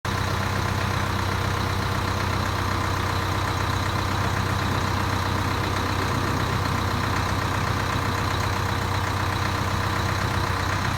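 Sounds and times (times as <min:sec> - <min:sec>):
corn harvester working: 0:00.1 - 0:10.9
tractor engine drone: 0:00.1 - 0:10.9.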